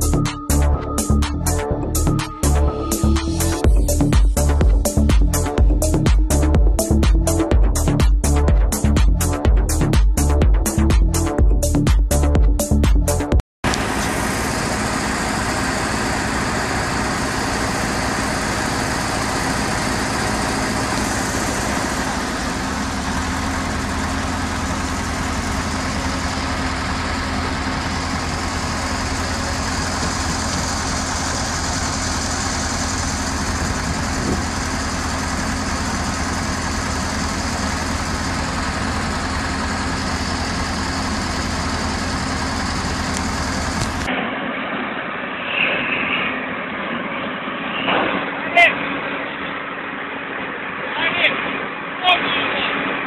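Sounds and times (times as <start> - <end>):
excavator engine droning: 0.0 - 50.9.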